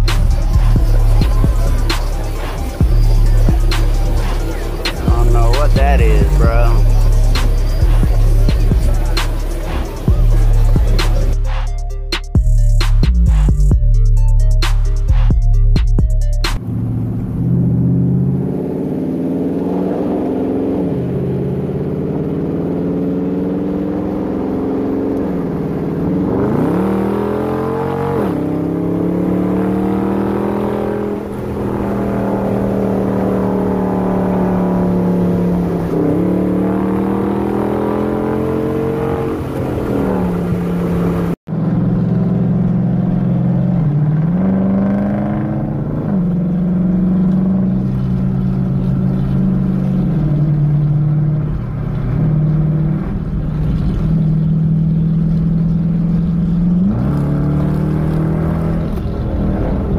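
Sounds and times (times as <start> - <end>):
car engine from inside cabin: 0.0 - 11.4, 16.6 - 59.9.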